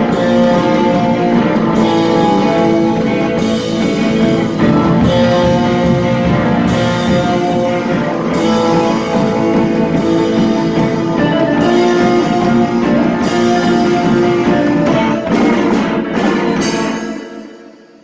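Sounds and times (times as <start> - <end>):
cymbal crashes: 0.0 - 18.0
live rock band playing: 0.0 - 18.0.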